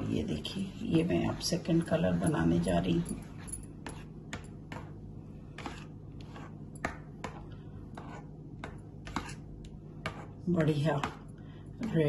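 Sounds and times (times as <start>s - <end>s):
spoon stirring thick mixture: 1.1s - 12.0s.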